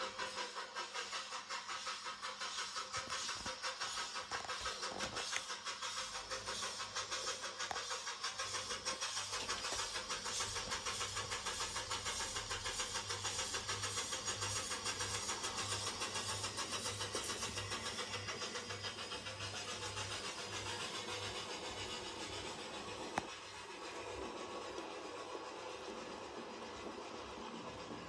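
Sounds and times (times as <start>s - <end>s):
model train whirring: 0.0s - 28.0s.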